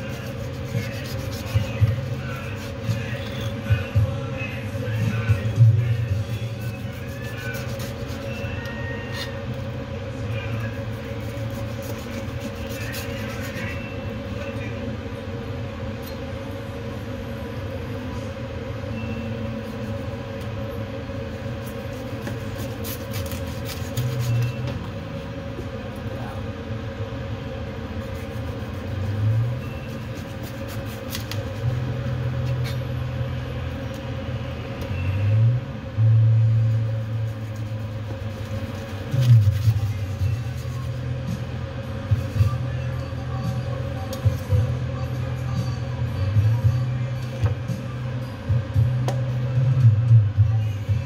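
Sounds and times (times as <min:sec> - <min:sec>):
low rumble and hum: 0:00.0 - 0:51.0.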